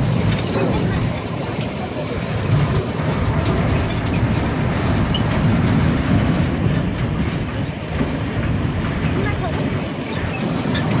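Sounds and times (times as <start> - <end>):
vehicle rumbling over rough ground: 0.0 - 11.0.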